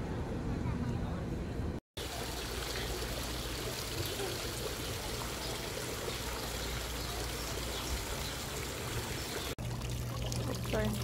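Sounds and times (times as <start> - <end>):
fountain water splashing into basin: 2.0 - 11.0.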